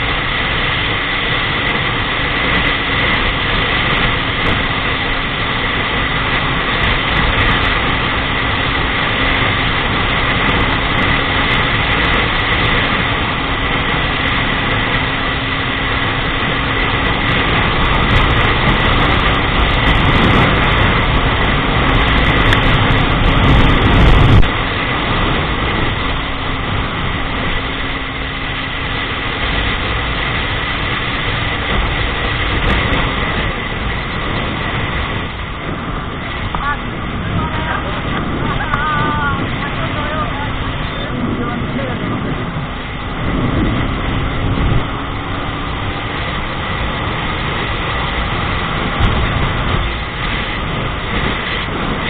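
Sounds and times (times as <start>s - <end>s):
motorcycle engine hum: 0.0s - 52.0s
road noise: 0.0s - 52.0s
rushing wind: 0.0s - 52.0s.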